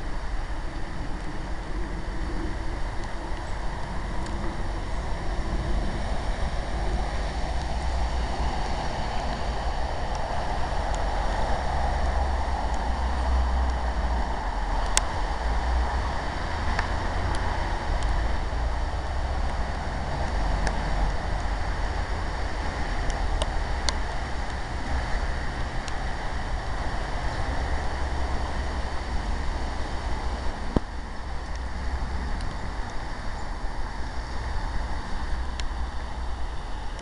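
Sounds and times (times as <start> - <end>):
low rumble: 0.0 - 37.0
steady rain hissing: 0.0 - 37.0.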